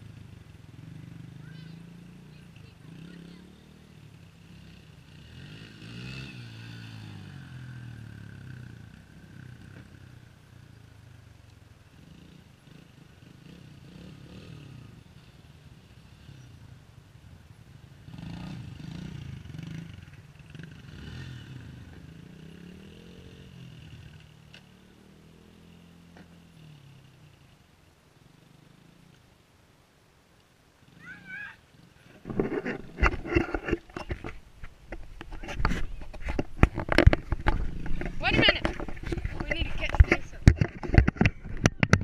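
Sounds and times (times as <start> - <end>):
dirt bike engines revving: 0.0 - 29.6, 30.4 - 42.0.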